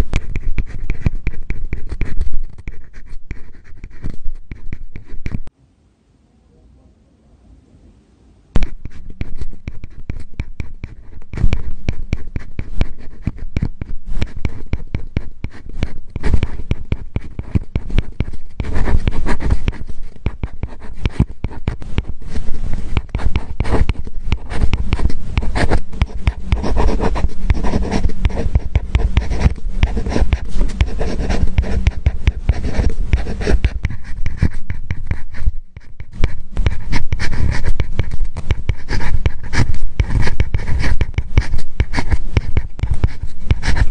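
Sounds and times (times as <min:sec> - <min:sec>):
stylus scratching on screen: 0:00.0 - 0:05.5, 0:08.6 - 0:43.9.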